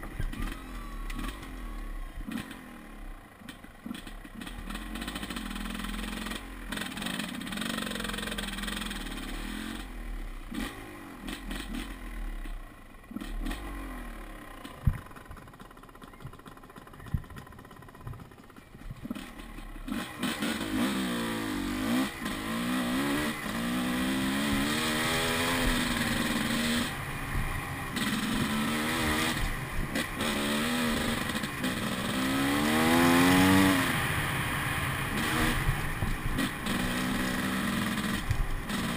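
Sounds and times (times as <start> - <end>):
dirt bike engine revving: 0.0 - 3.2, 3.8 - 38.9.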